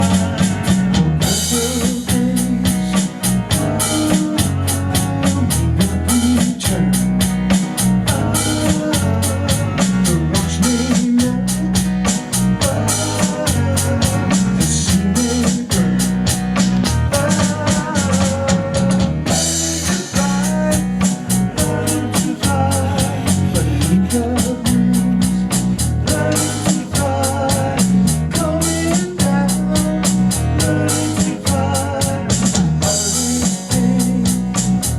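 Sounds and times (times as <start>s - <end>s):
drum kit beat: 0.0s - 34.9s
low bass notes: 0.0s - 34.9s.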